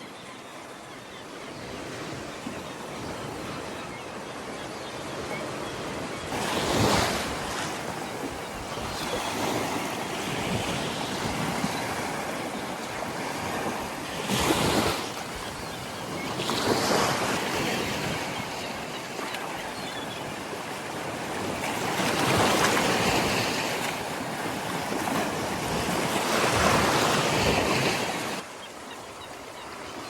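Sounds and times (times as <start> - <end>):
sea waves breaking on shore: 1.5 - 30.0.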